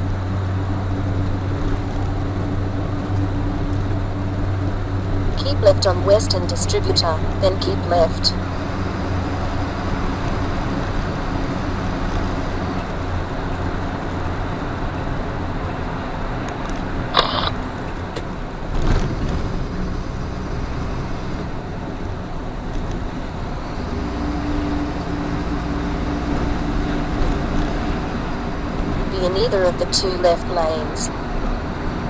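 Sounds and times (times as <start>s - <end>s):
truck engine hum and road noise: 0.0s - 32.0s.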